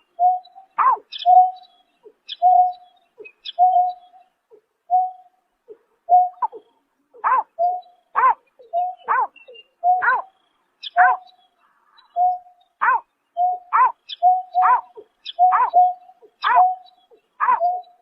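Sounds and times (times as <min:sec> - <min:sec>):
bird hooting: 0:00.2 - 0:11.4, 0:12.0 - 0:18.0.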